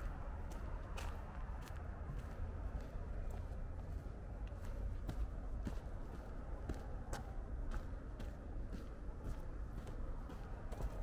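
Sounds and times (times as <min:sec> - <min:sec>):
footsteps on dirt trail: 0:00.0 - 0:11.0.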